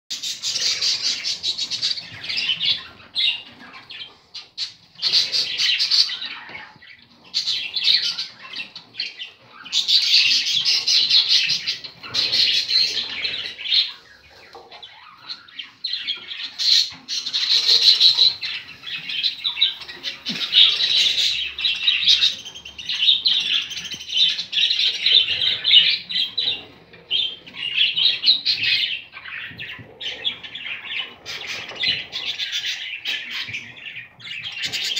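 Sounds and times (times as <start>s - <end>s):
budgerigars chirping and squawking: 0.1s - 34.9s.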